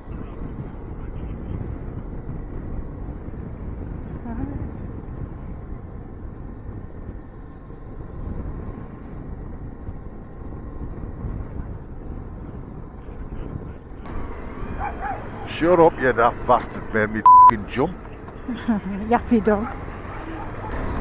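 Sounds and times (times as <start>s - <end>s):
wind rushing over microphone: 0.0s - 21.0s
motorcycle engine cruising: 0.6s - 21.0s.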